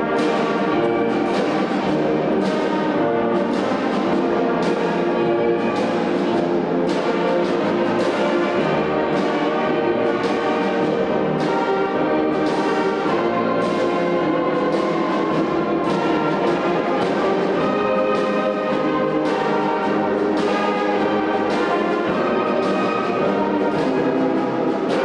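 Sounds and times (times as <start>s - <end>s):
brass band music: 0.0s - 25.0s
sharp beat: 0.0s - 25.0s.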